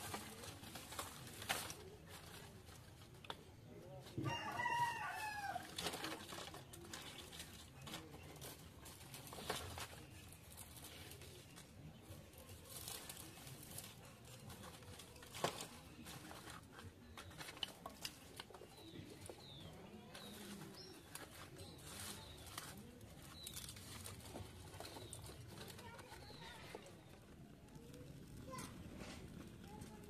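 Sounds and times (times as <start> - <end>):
small birds chirping: 5.8 - 30.0.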